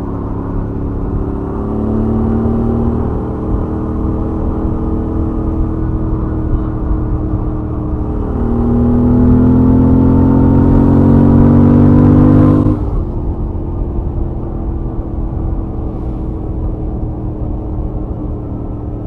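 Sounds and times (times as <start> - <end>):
motorcycle engine at speed: 0.0 - 19.0
wind rumble: 0.0 - 19.0.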